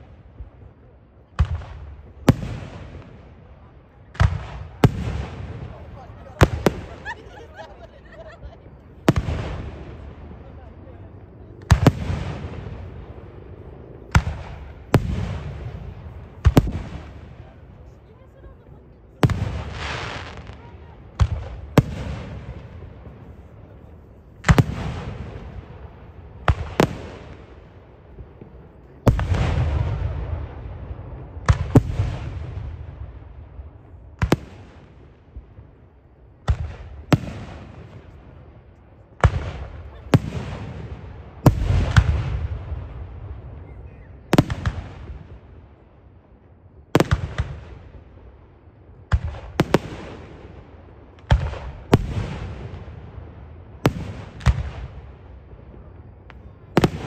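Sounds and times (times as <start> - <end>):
fireworks bursting with echo: 0.0 - 46.1, 46.8 - 57.0.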